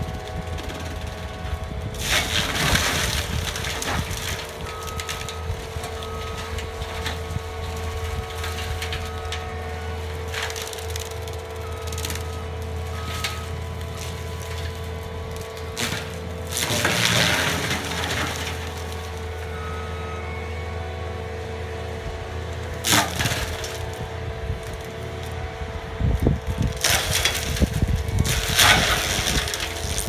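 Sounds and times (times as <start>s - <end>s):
wood shredding and splintering: 0.0s - 19.7s, 22.5s - 30.0s
mulcher engine and drum humming: 0.0s - 30.0s.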